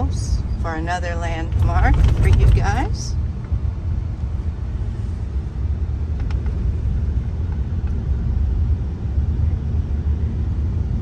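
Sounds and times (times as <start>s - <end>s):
truck rumbling along road: 0.0s - 11.0s.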